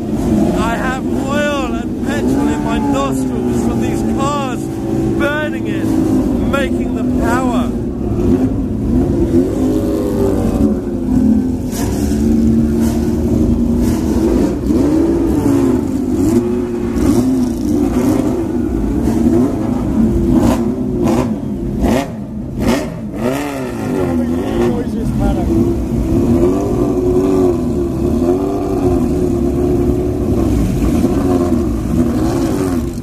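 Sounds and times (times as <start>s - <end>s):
racing car engine revving: 0.0s - 33.0s.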